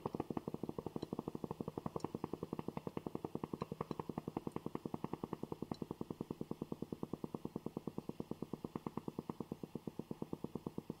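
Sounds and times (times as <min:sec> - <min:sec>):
coffee maker pulsing: 0:00.0 - 0:11.0.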